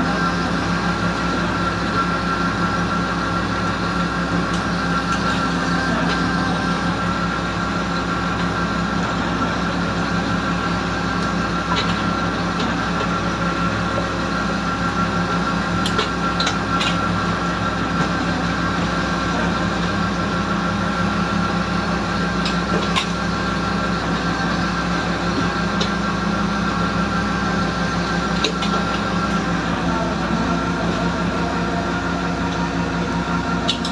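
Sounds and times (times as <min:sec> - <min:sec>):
boat engine drone: 0:00.0 - 0:33.9.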